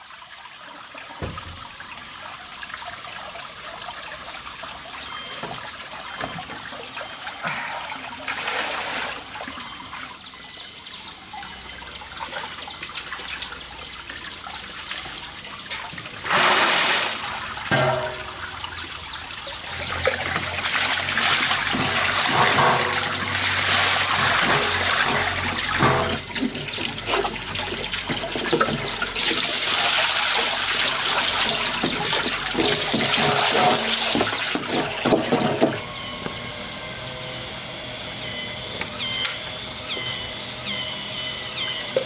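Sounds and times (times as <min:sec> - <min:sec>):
water pouring and splashing: 0:00.0 - 0:36.0.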